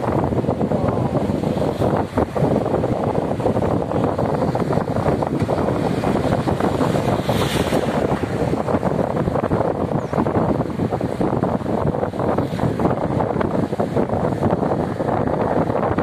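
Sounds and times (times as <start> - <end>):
steady low rumble: 0.0 - 16.0
wind buffeting microphone: 0.0 - 16.0.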